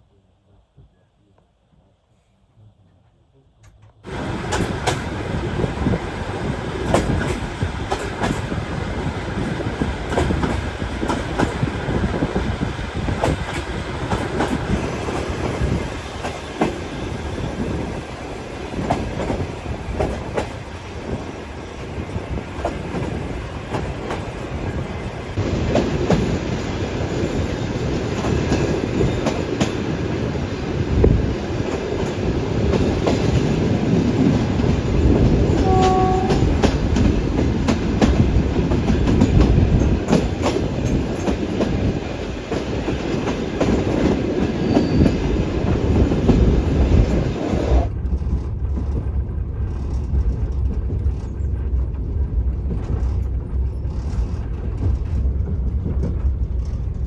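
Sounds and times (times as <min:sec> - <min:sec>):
train rumbling on rails: 0:03.6 - 0:57.0.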